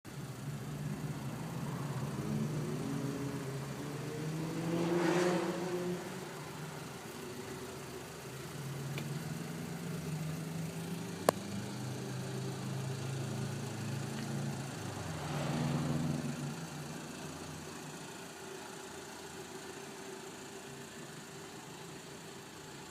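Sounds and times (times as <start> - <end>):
car engine idling and revving: 0.1 - 22.9.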